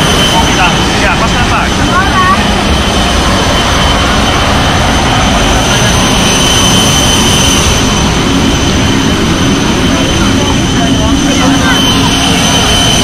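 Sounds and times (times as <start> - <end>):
high-pitched turbine whine: 0.0 - 13.0
jet turbine rumble and hiss: 0.0 - 13.0.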